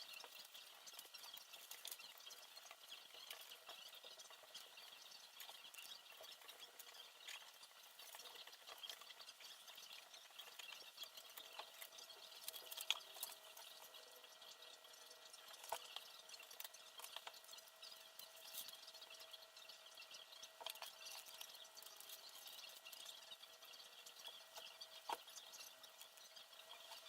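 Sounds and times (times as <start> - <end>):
faint steady hum: 0.0 - 27.0
small parts and tools clicking: 0.0 - 27.0.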